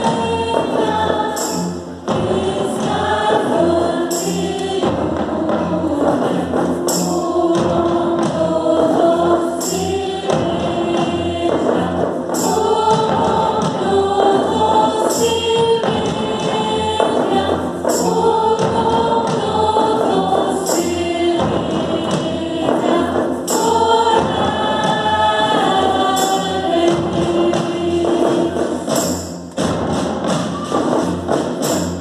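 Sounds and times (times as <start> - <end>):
choir singing: 0.0 - 32.0
low drum beats: 0.0 - 32.0.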